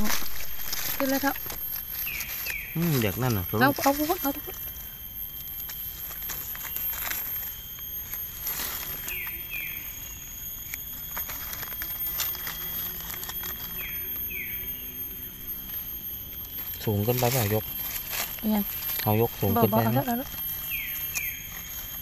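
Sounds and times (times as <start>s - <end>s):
rustling in leaf litter: 0.0s - 22.0s
steady high-pitched tone: 0.0s - 22.0s.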